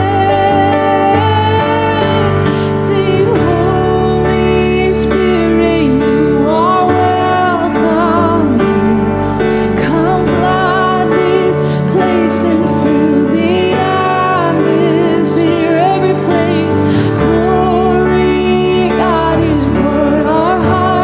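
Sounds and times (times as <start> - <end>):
sustained keyboard chords: 0.0 - 21.0
woman and man singing: 0.0 - 21.0.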